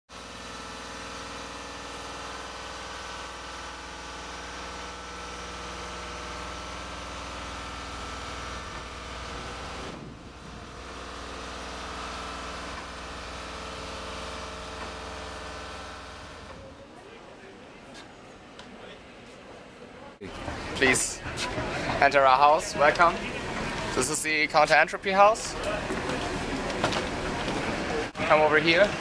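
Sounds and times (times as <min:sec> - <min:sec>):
steady machine hum: 0:00.1 - 0:18.5, 0:19.1 - 0:29.0.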